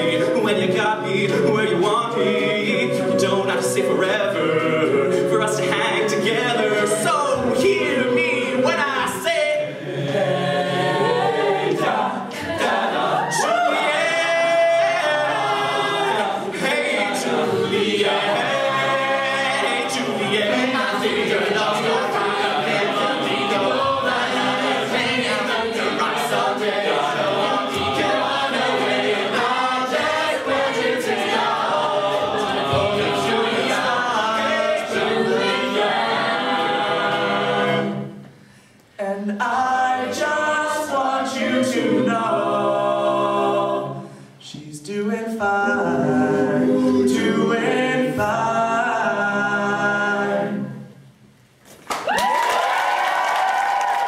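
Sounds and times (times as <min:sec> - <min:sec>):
a cappella group singing: 0:00.0 - 0:51.2.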